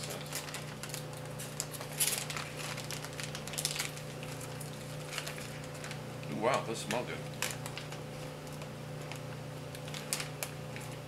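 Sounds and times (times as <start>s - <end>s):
foil packaging crinkling: 0.0s - 11.0s
steady low hum: 0.0s - 11.0s.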